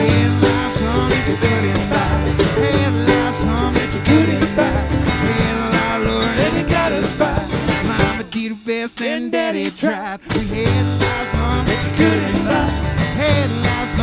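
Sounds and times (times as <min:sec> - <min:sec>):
bass: 0:00.0 - 0:08.5, 0:10.2 - 0:14.0
steady drum beat: 0:00.0 - 0:09.1, 0:09.7 - 0:14.0
guitars: 0:00.0 - 0:14.0.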